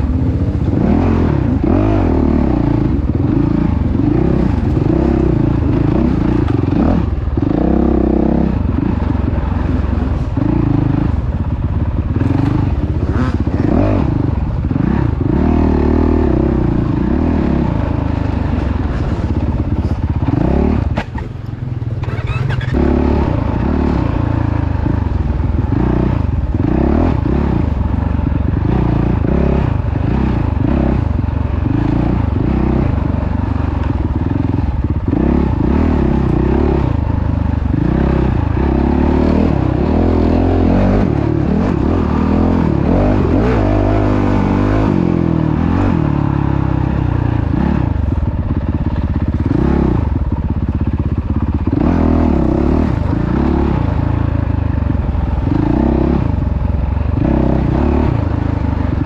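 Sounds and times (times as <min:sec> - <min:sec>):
off-road vehicle engine revving: 0:00.0 - 0:21.4, 0:22.0 - 0:59.0.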